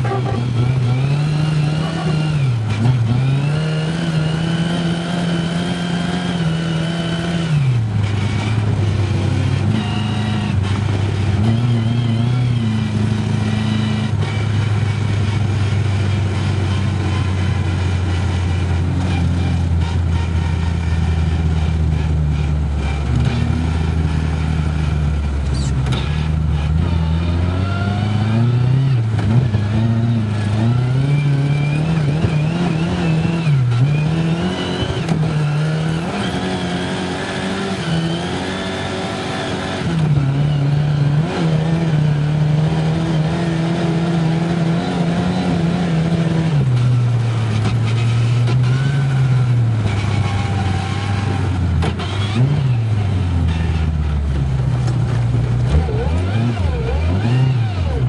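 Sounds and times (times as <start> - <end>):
car engine revving while driving: 0.0 - 58.0.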